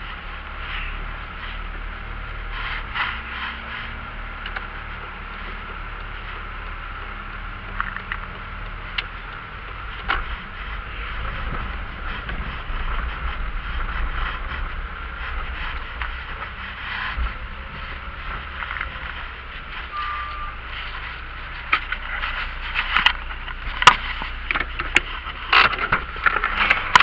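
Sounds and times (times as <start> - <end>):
car engine and road rumble: 0.0 - 27.0
sharp clicks and knocks: 2.8 - 19.9, 20.5 - 27.0.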